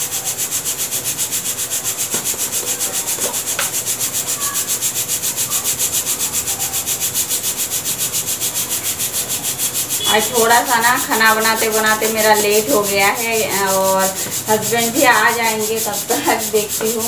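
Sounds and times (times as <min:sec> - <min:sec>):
pressure cooker hissing steam: 0:00.0 - 0:17.0.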